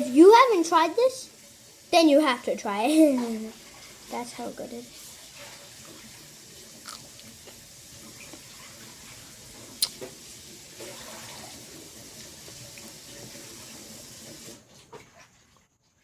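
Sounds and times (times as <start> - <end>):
water running: 0.0 - 15.7.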